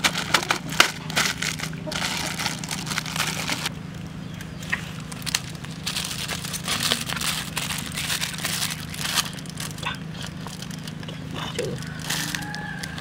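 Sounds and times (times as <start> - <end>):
aluminium foil crinkling: 0.0 - 3.7, 5.0 - 13.0
steady low hum: 0.0 - 13.0.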